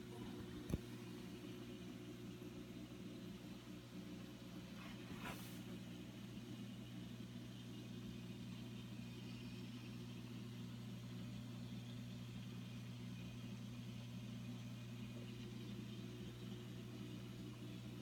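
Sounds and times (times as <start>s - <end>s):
aquarium pumps humming: 0.0s - 18.0s.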